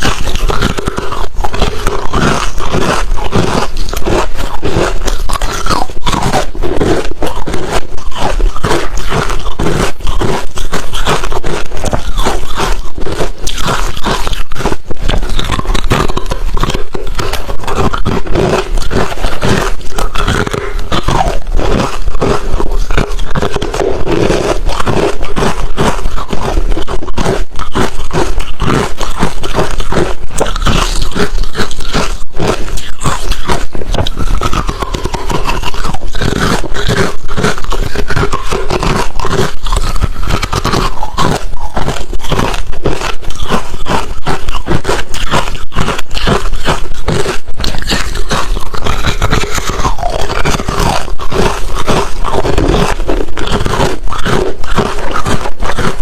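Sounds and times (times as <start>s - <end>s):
ice being chewed: 0.0s - 56.0s.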